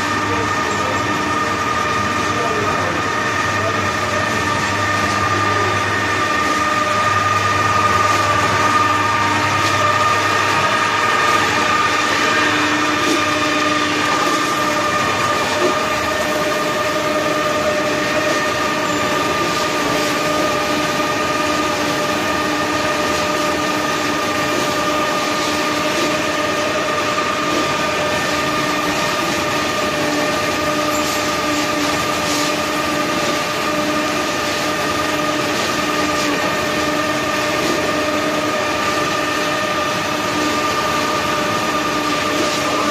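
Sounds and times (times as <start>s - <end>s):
feed mixer motor hum: 0.0s - 42.9s
rumble of mixing: 0.0s - 42.9s.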